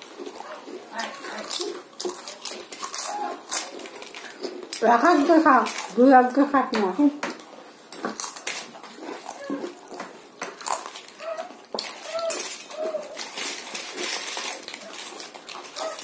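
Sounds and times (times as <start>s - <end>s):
people crunching chips: 0.0s - 16.0s.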